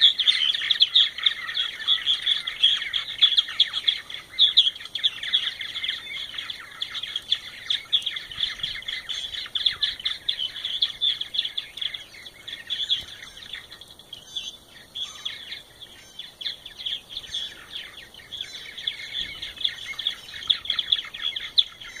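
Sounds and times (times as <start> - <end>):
birds chattering: 0.0 - 22.0.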